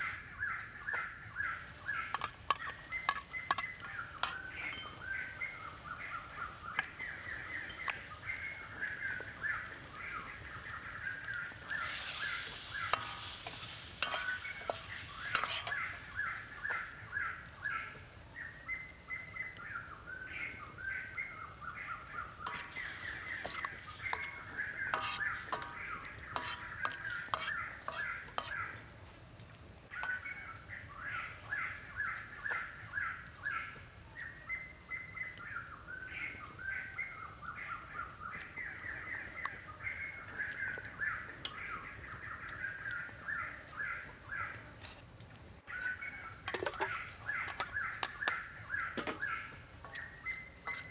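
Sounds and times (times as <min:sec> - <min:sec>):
birds chirping: 0:00.0 - 0:29.1, 0:29.9 - 0:44.8, 0:45.6 - 0:50.9.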